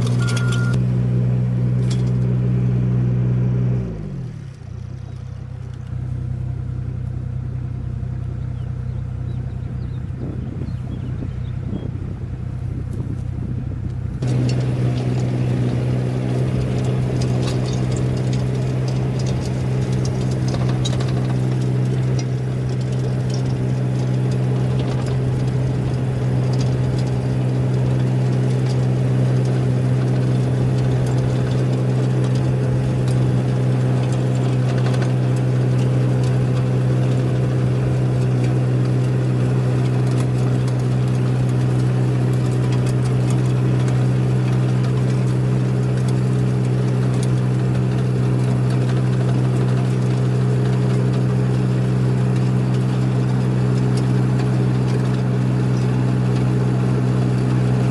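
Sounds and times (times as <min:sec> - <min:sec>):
construction machine engine running: 0:00.0 - 0:57.9.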